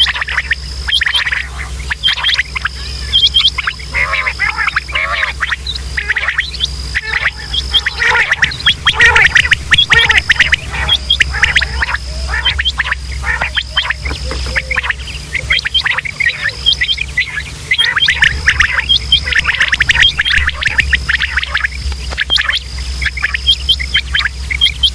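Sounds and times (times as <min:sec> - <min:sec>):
quail chirping: 0:00.0 - 0:24.9
steady low hum: 0:00.0 - 0:24.9
thin high steady tone: 0:04.8 - 0:24.9.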